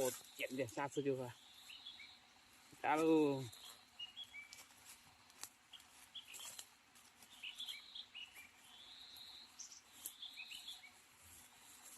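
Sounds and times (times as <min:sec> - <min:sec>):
faint bird chirping: 0:00.0 - 0:11.9.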